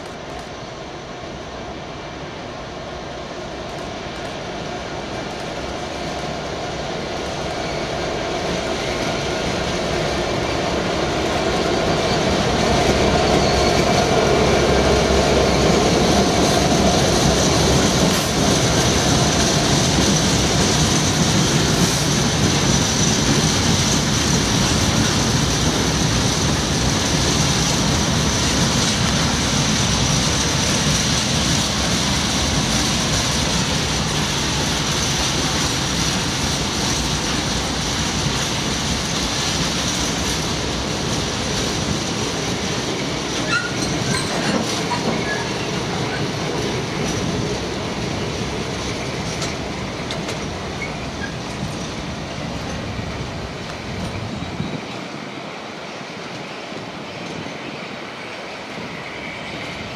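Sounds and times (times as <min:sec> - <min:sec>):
diesel locomotive engine passing: 0:00.5 - 0:59.9.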